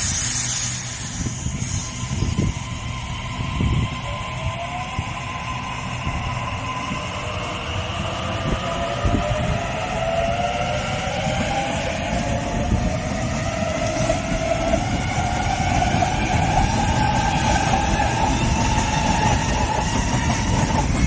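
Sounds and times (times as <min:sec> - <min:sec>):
train rail rumble: 0:00.0 - 0:21.0.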